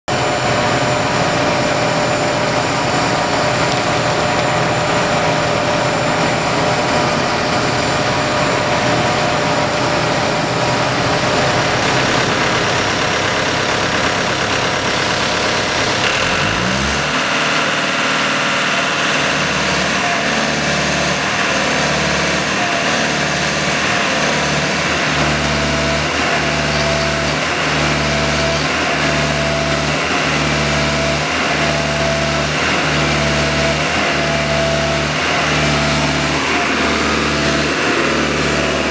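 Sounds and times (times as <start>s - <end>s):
diesel engine running and revving: 0.1s - 38.9s.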